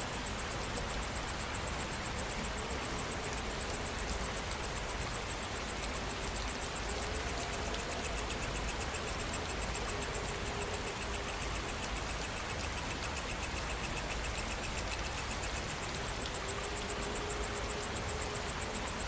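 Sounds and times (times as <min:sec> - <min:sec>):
insects chirping: 0:00.0 - 0:19.0
steady rain: 0:00.0 - 0:19.0.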